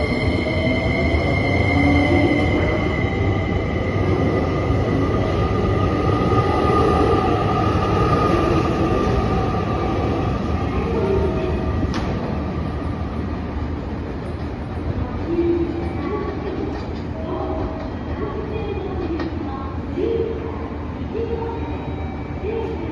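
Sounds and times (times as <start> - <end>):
electric train rumbling: 0.0 - 22.9.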